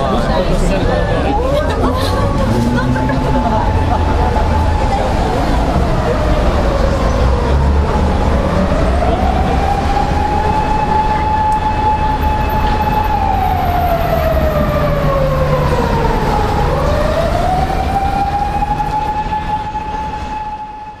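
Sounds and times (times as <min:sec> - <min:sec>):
emergency siren wailing: 0:00.0 - 0:21.0
street traffic rumble: 0:00.0 - 0:21.0.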